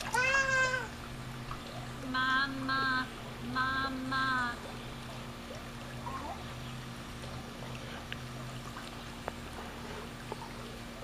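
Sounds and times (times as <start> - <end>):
low steady hum: 0.0 - 11.0
pool water lapping: 0.0 - 11.0.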